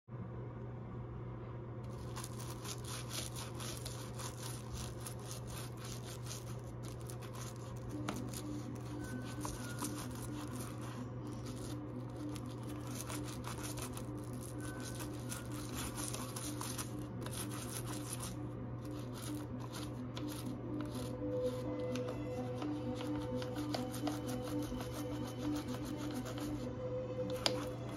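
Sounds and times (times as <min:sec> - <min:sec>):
steady low hum: 0:00.1 - 0:27.9
toothbrush scrubbing plastic: 0:01.9 - 0:26.7, 0:27.3 - 0:27.9.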